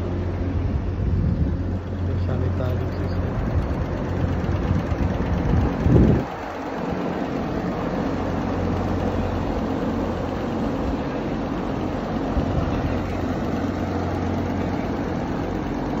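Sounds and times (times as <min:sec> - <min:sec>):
exhaust fans running: 0:00.0 - 0:16.0.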